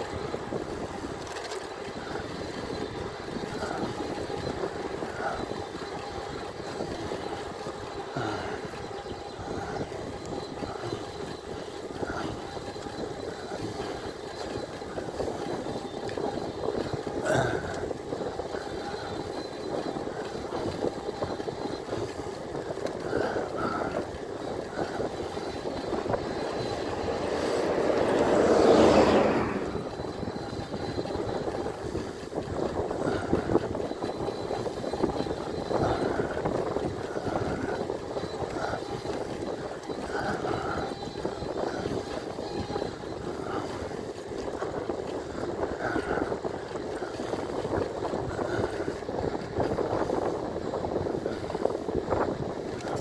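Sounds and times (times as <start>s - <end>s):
wind and tyre noise: 0.0s - 53.0s.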